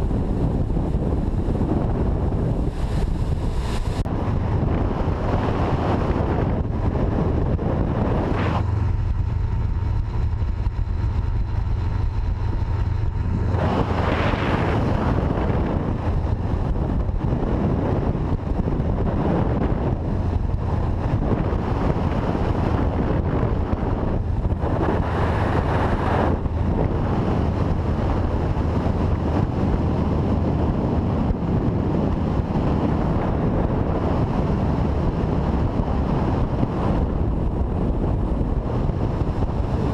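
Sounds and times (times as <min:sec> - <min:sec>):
outboard motor drone: 0:00.0 - 0:39.9
wind buffeting microphone: 0:00.0 - 0:39.9.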